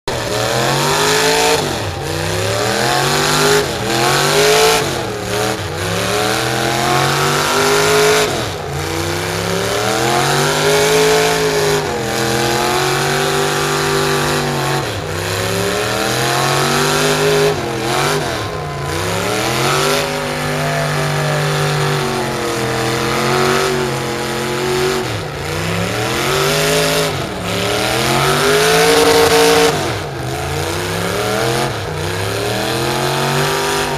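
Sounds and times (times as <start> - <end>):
truck engine revving under load: 0.0 - 33.9.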